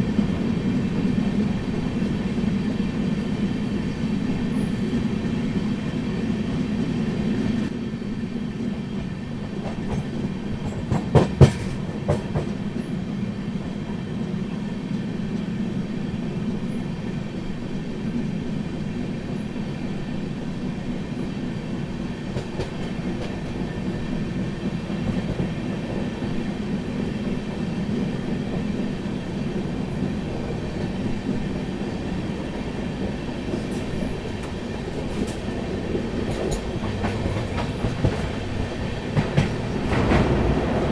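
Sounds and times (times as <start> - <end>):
train wheels clickety-clack: 0.0 - 40.9.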